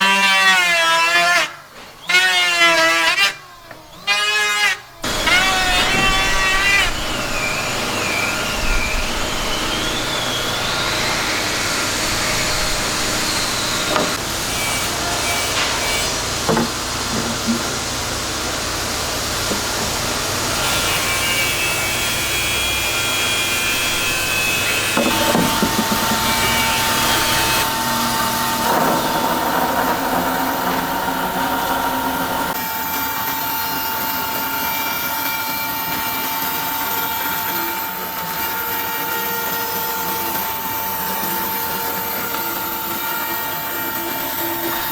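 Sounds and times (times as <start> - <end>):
power saw cutting wood: 0.0 - 44.9.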